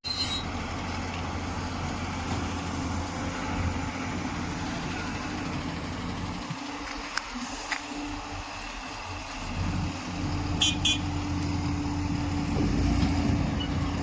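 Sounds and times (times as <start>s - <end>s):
heavy diesel engine humming: 0.0s - 14.0s.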